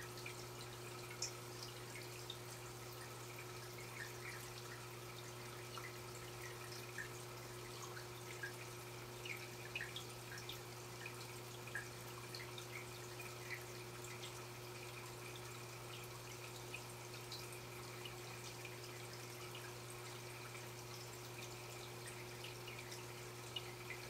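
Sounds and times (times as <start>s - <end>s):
water drips and plinks: 0.1s - 24.0s.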